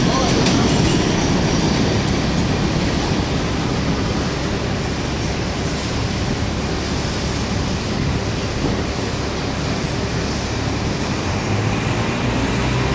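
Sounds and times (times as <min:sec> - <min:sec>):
road traffic rumble and hiss: 0:00.0 - 0:12.9.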